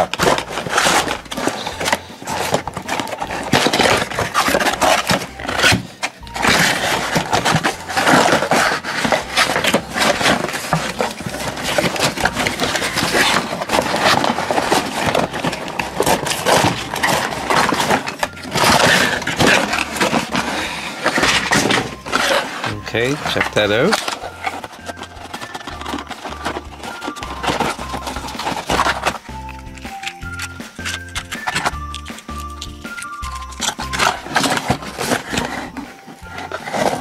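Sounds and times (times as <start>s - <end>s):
cardboard and plastic handling: 0.0s - 37.0s.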